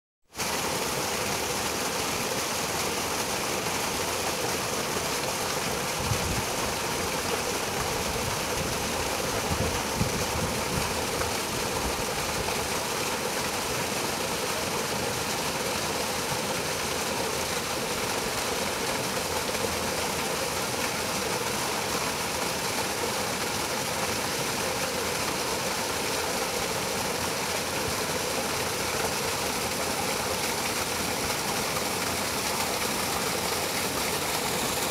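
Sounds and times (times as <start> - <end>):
stream rushing over boulders: 0.3 - 34.9.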